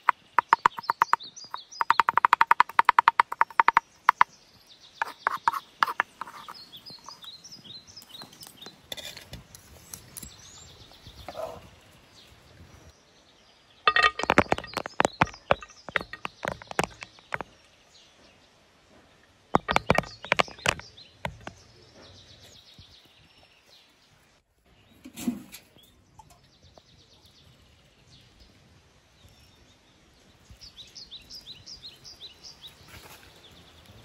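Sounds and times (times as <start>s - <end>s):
birds chirping faintly: 0.0s - 34.0s.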